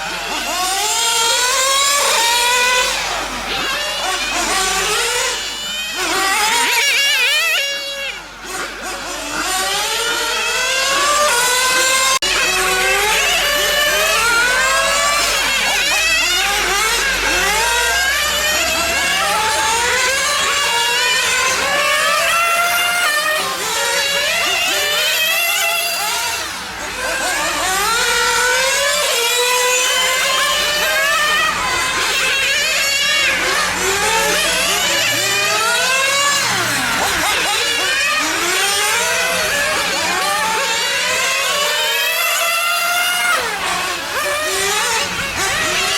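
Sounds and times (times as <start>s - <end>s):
rc car engines revving: 0.0s - 45.9s.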